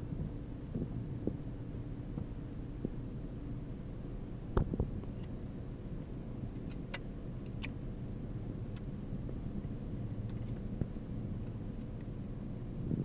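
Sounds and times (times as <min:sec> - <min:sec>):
car idling hum: 0:00.0 - 0:13.0.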